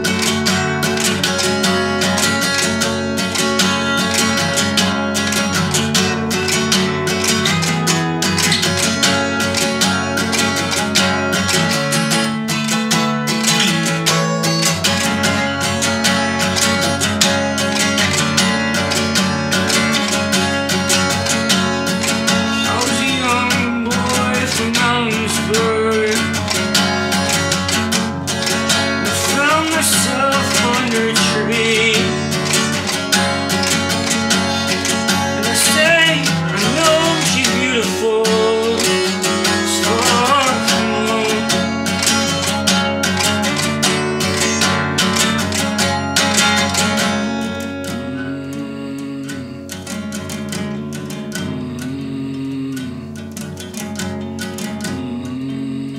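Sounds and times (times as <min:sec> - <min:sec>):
solo guitar playing: 0:00.0 - 0:55.9.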